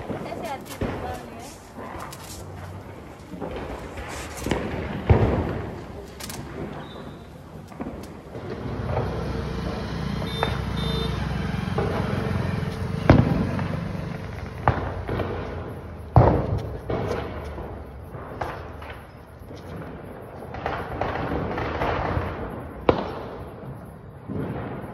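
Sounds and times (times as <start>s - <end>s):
firecrackers banging: 0.0s - 24.9s.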